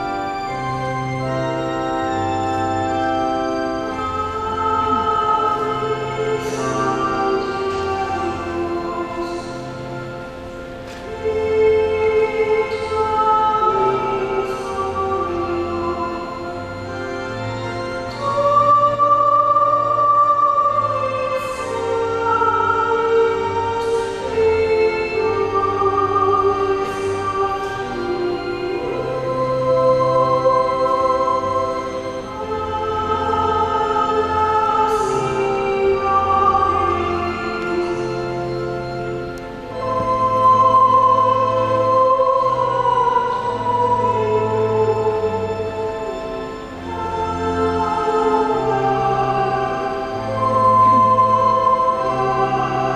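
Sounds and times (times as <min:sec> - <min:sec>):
choir singing: 0:00.0 - 0:52.9
organ playing: 0:00.0 - 0:52.9.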